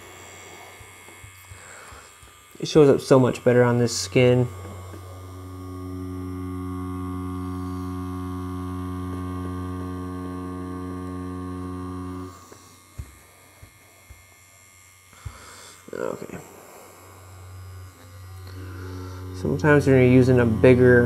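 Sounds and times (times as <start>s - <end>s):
tattoo machine humming: 0.0s - 21.0s.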